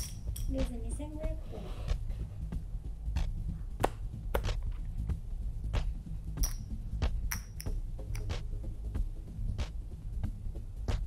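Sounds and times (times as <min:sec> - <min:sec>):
throbbing background music: 0:00.0 - 0:11.0.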